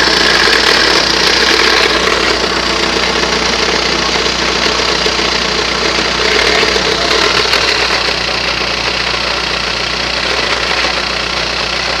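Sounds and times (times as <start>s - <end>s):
car engine idling: 0.0s - 12.0s
engine rattling and knocking: 0.0s - 12.0s.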